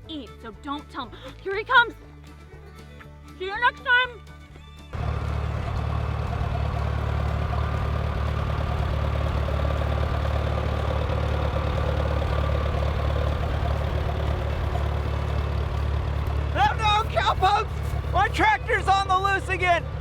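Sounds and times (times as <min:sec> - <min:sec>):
tractor engine running: 0:03.7 - 0:20.0.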